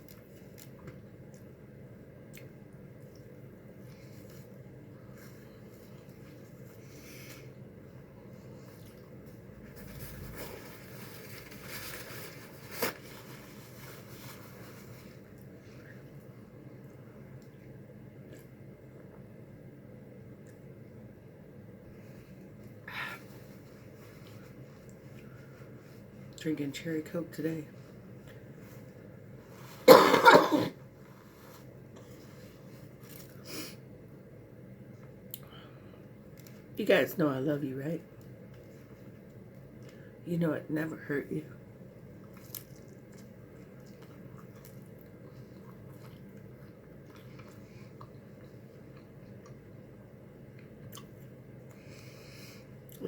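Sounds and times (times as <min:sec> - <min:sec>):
chewing and handling food: 0:00.0 - 0:26.4, 0:27.7 - 0:29.8, 0:31.0 - 0:36.8, 0:38.0 - 0:40.2, 0:41.6 - 0:53.0
steady low hum: 0:00.0 - 0:53.0.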